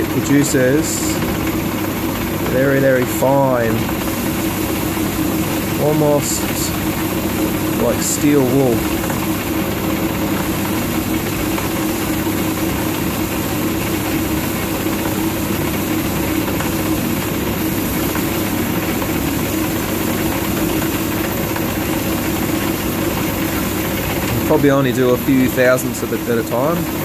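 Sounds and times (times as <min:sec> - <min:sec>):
metal lathe running: 0:00.0 - 0:27.0.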